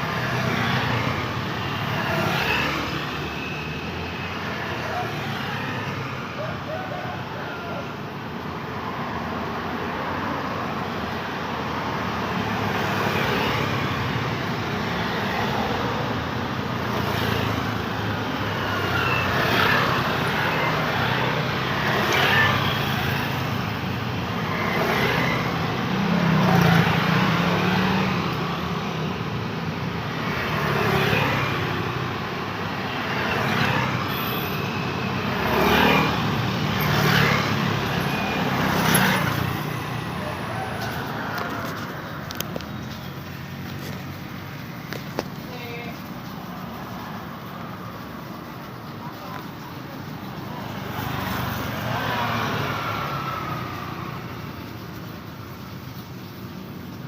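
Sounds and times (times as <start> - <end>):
cars and motorcycles passing: 0.0 - 57.0
steady traffic roar: 0.0 - 57.0.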